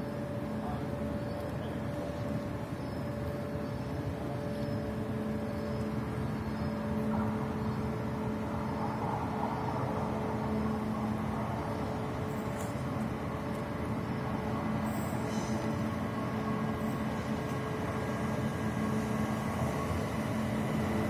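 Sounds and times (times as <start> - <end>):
train running with steady hum: 0.0 - 21.0.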